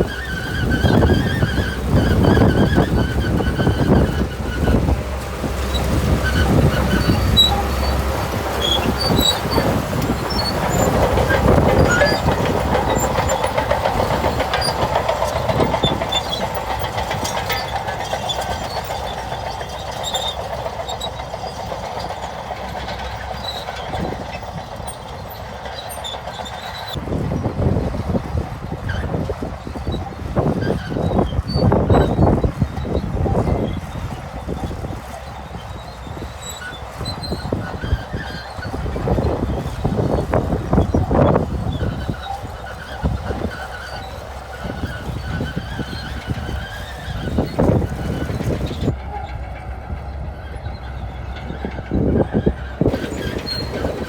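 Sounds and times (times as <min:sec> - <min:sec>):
bulldozer engine rumbling: 0:00.0 - 0:54.0
steel tracks clattering and squeaking: 0:00.0 - 0:54.0.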